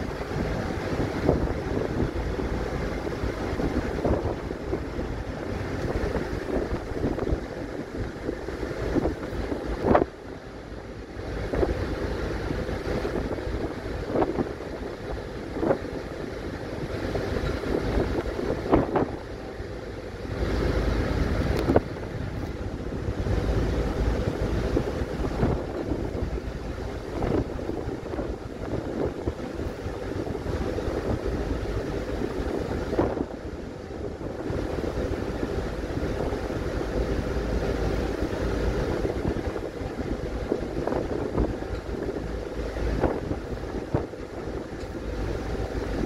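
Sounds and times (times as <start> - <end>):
ferry engine noise: 0.0 - 46.0
water rushing: 0.0 - 46.0
wind gusting on microphone: 0.0 - 46.0.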